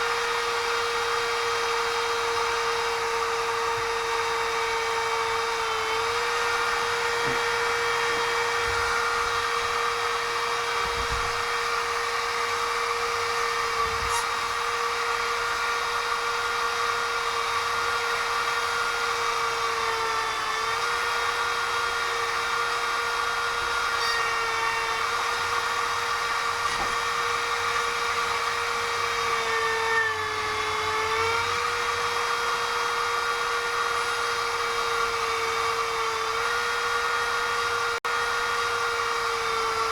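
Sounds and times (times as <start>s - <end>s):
small electric drill whining: 0.0s - 39.9s.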